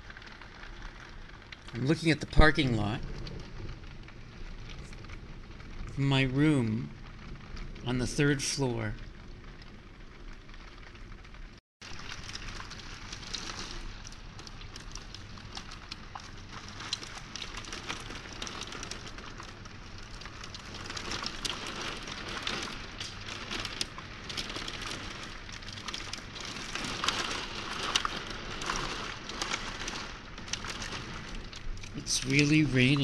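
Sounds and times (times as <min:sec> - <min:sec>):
heavy rain on window glass: 0:00.0 - 0:33.0.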